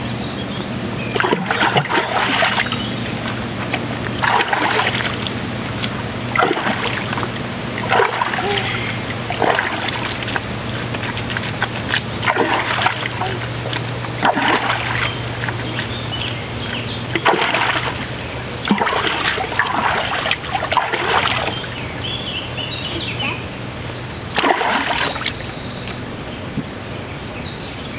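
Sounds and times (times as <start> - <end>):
river water splashing: 1.1 - 23.2, 24.0 - 26.6.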